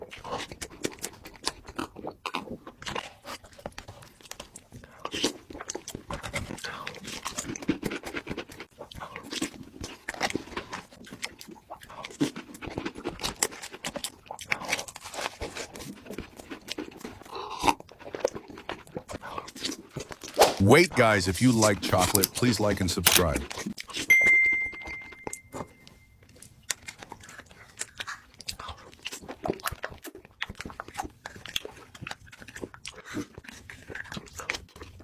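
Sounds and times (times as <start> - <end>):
crunching and chewing: 0.0 - 24.1, 24.7 - 35.0.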